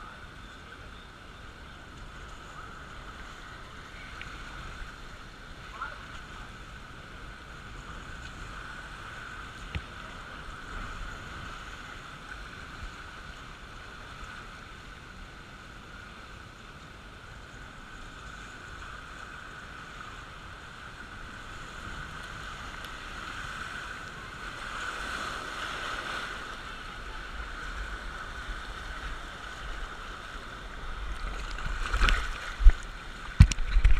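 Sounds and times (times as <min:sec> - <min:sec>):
low wind rumble: 0:00.0 - 0:33.9
water rushing along a flume: 0:00.0 - 0:33.9.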